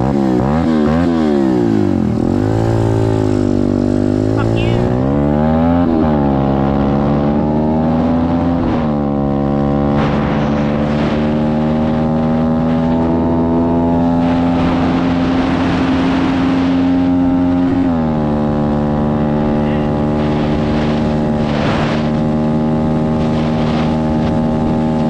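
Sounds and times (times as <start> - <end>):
motorcycle engine at full throttle: 0.0 - 25.0.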